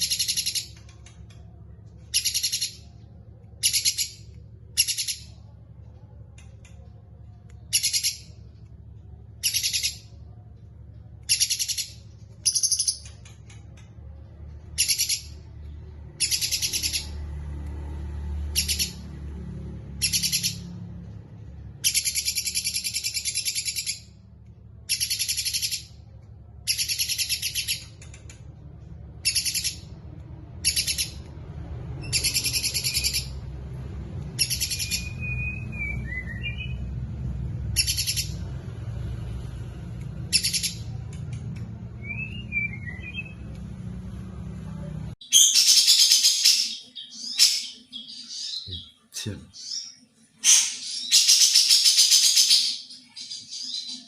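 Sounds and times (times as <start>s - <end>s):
steady low rumble: 0.0s - 45.2s.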